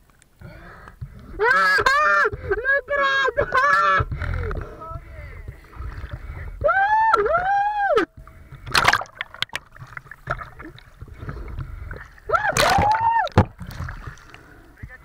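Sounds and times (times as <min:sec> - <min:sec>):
water splashing: 0:02.4 - 0:15.0.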